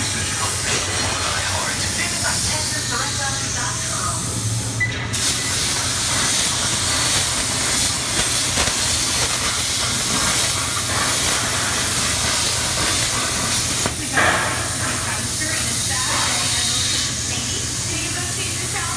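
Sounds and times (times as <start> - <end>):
plasma arc hissing: 0.0 - 18.9.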